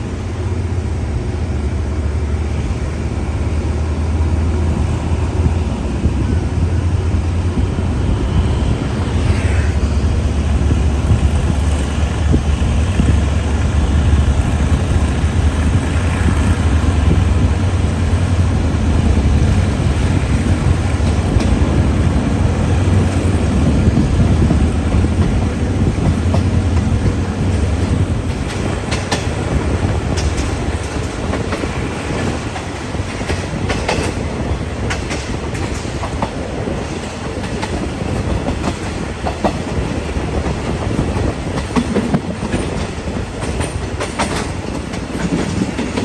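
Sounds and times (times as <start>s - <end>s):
diesel train rumbling: 0.0s - 46.0s.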